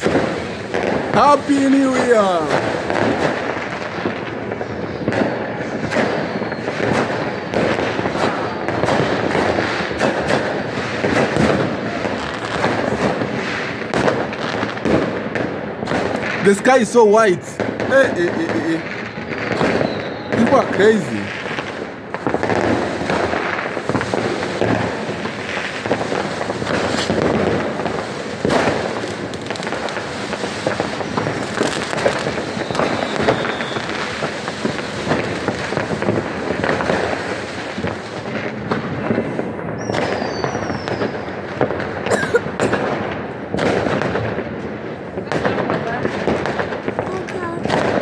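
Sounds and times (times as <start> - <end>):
fireworks crackling and banging: 0.0 - 48.0
whistling fireworks: 0.0 - 48.0.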